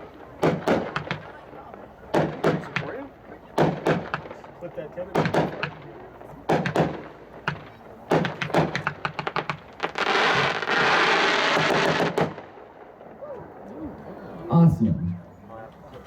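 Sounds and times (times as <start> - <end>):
firework crackling: 0.0 - 13.7
firework reports: 0.0 - 16.0.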